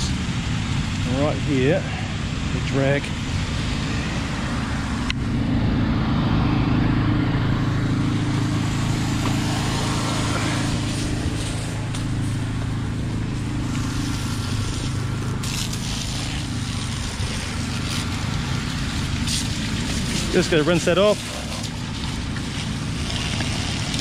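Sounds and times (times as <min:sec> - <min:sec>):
drain jetter engine running: 0:00.0 - 0:24.0.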